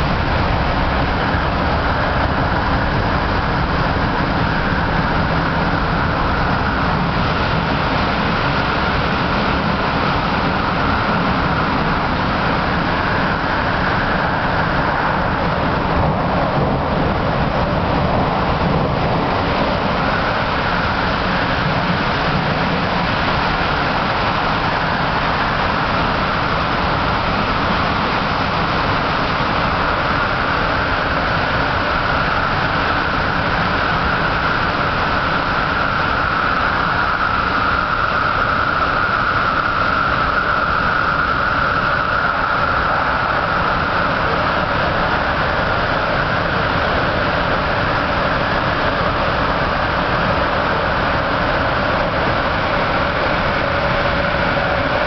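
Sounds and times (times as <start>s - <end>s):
train wheel and running noise: 0.0s - 55.0s
train whine: 0.0s - 55.0s.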